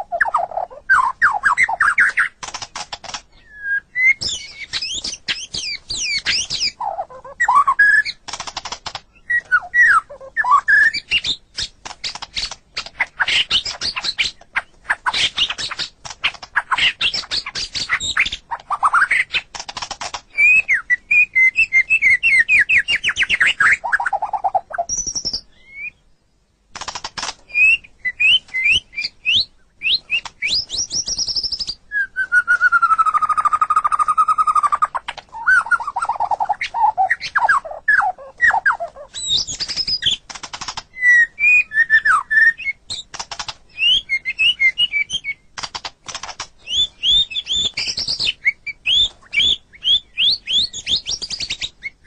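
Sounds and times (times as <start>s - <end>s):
songbird singing whistles and trills: 0.0s - 2.4s, 3.3s - 8.2s, 9.1s - 19.5s, 20.3s - 26.2s, 27.5s - 40.2s, 40.9s - 43.1s, 43.7s - 45.5s, 46.6s - 52.0s.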